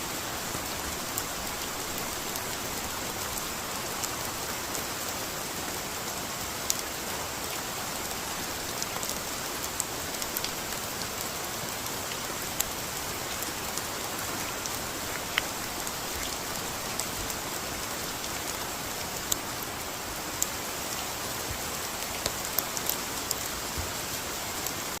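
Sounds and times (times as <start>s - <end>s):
rain hissing in a forest: 0.0s - 25.0s.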